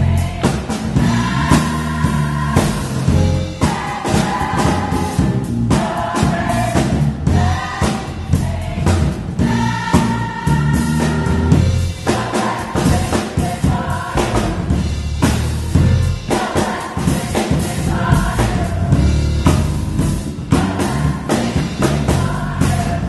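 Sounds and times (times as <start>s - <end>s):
gospel choir singing: 0.0s - 23.0s
steady percussive beat: 0.0s - 23.0s.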